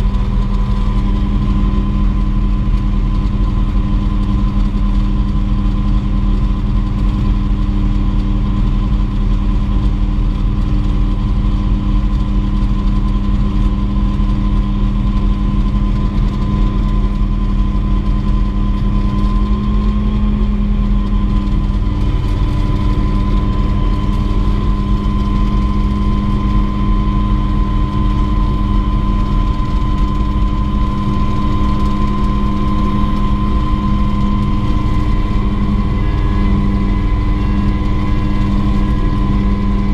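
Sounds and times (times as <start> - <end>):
helicopter turbine and rotor running: 0.0 - 39.9.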